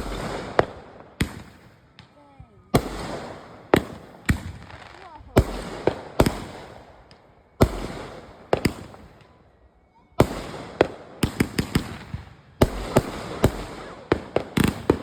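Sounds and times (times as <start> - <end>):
fireworks cracking: 0.0 - 9.4, 10.2 - 15.0.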